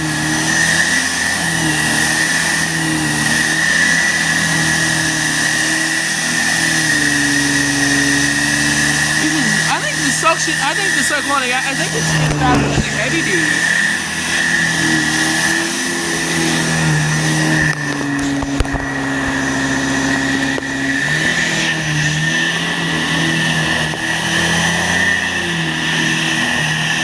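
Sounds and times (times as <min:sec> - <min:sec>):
upright vacuum cleaner on carpet: 0:00.0 - 0:27.0.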